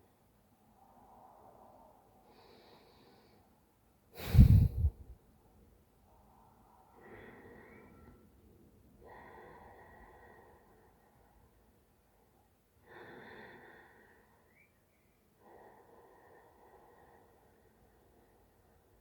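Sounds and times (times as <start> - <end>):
quiet breathing: 0.0 - 19.0.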